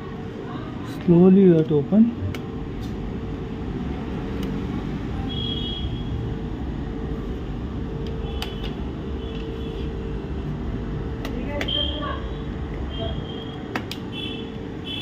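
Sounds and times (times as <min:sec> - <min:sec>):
faint constant hum: 0:00.0 - 0:15.0.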